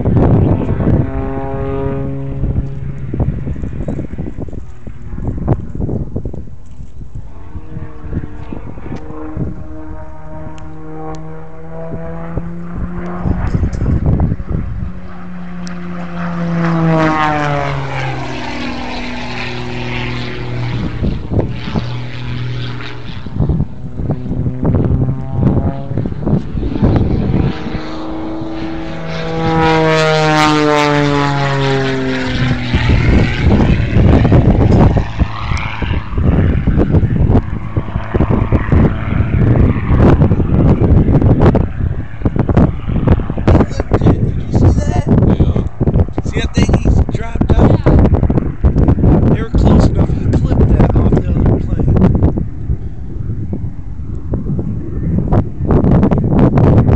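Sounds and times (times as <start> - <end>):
propeller airplane flying past: 0.0 - 56.9
wind buffeting microphone: 0.0 - 56.9.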